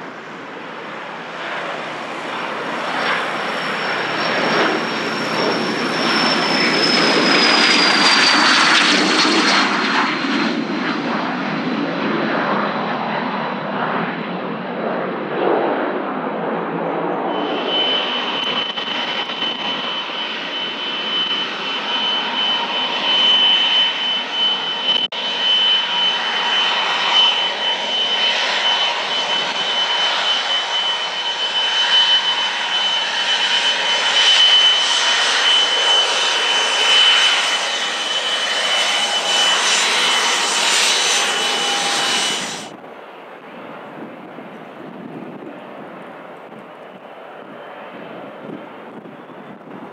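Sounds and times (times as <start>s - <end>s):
loud jet noise: 0.0s - 14.1s, 15.3s - 45.6s
jet turbine whine: 0.0s - 49.9s.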